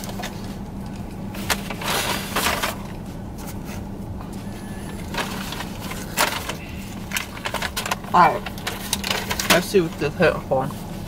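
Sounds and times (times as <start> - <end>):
paper bag and wrappers rustling: 0.0 - 11.0
steady low hum: 0.0 - 11.0.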